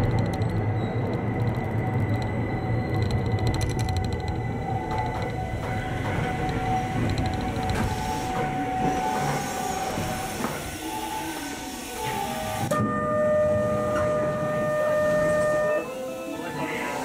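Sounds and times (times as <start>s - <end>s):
train running noise: 0.0s - 17.0s
steady multi-pitch tone: 0.3s - 17.0s.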